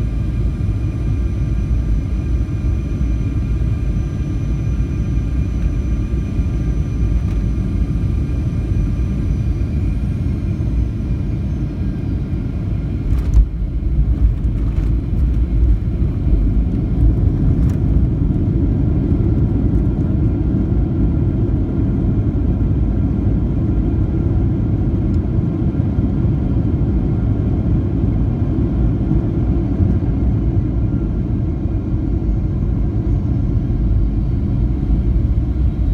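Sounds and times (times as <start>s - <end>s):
airliner cabin rumble: 0.0s - 25.6s, 26.6s - 35.9s
faint jet engine whine: 0.0s - 35.9s.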